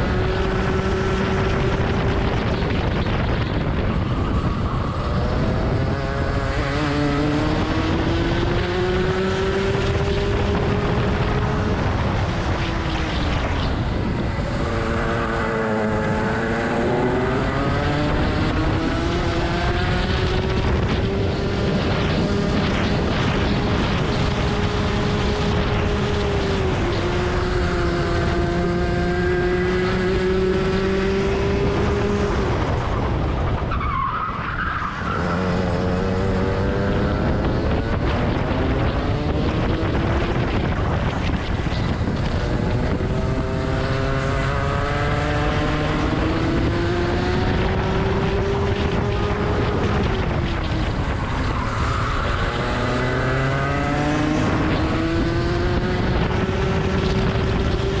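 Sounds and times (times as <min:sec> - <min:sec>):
kart engine at racing speed: 0:00.0 - 0:58.0.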